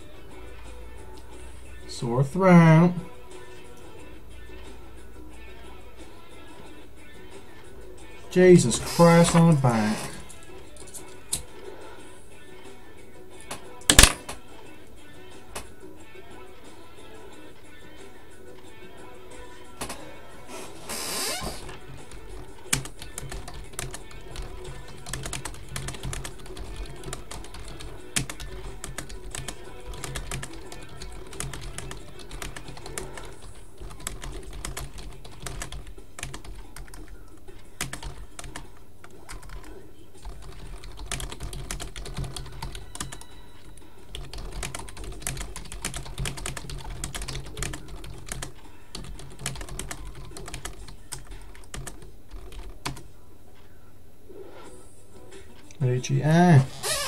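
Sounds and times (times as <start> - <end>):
background music: 0.0 - 57.0.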